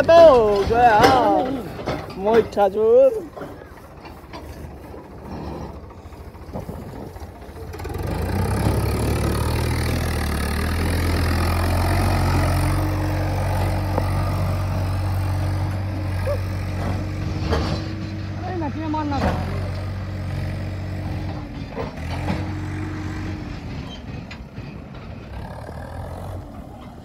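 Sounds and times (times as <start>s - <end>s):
tractor diesel engine under load: 0.0s - 27.0s.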